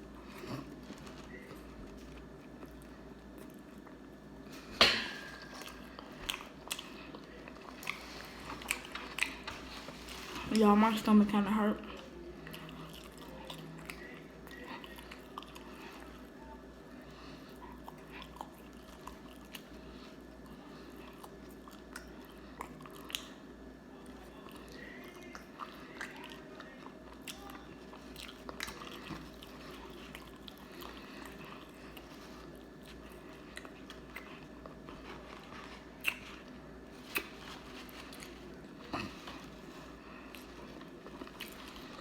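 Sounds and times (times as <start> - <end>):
chewing and crunching: 0.0 - 42.0
steady low hum: 0.0 - 42.0.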